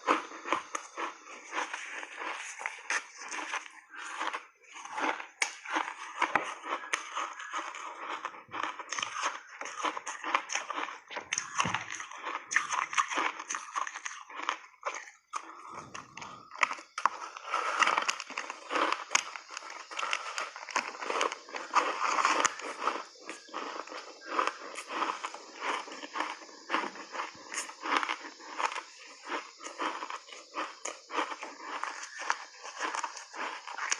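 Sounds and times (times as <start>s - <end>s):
ice being crunched by chewing: 0.0s - 33.9s.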